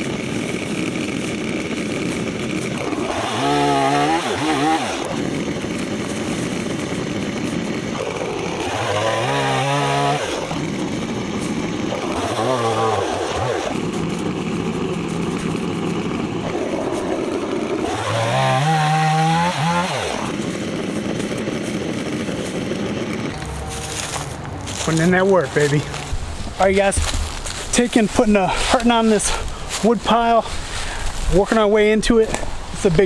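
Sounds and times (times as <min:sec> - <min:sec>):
chainsaw revving and idling: 0:00.0 - 0:33.0.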